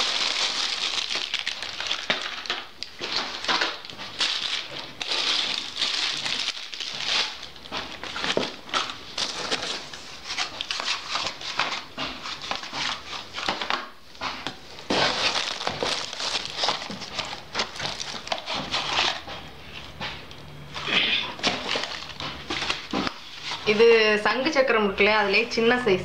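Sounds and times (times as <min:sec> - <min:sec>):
cardboard box rustling: 0:00.0 - 0:13.8, 0:14.5 - 0:23.9
plastic packets crinkling: 0:00.0 - 0:13.8, 0:14.4 - 0:23.9.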